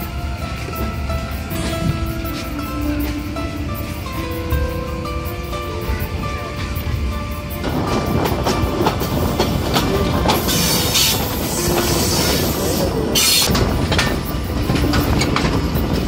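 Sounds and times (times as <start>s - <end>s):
rail-joint clicks: 0.0s - 16.0s
train wheels rumbling on track: 0.0s - 16.0s.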